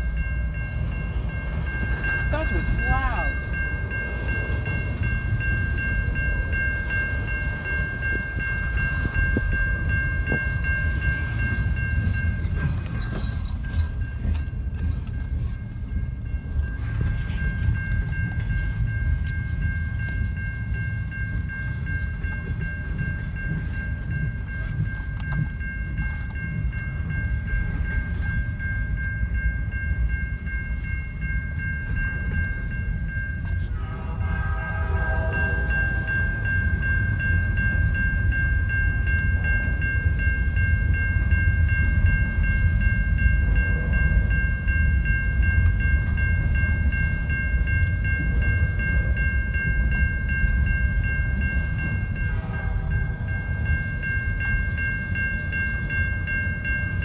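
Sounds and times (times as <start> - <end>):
crossing warning bell ringing: 0.0 - 57.0
freight train rumbling on rails: 0.0 - 57.0.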